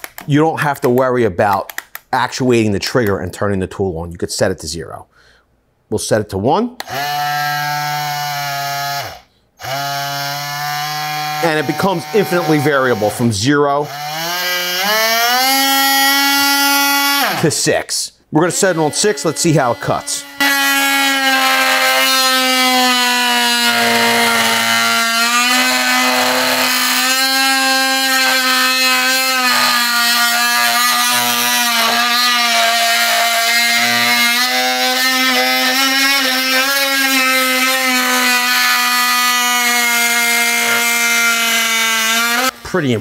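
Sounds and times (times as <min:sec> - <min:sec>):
oscillating multi-tool cutting wood: 0:06.8 - 0:17.8, 0:18.4 - 0:42.6.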